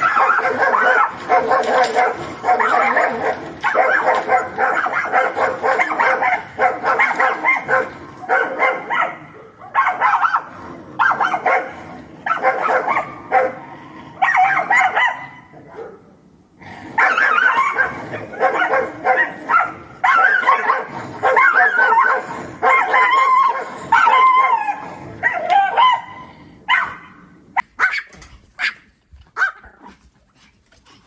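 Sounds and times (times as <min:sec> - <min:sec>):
pack of dogs barking: 0:00.0 - 0:16.0, 0:16.8 - 0:27.0, 0:27.6 - 0:31.0.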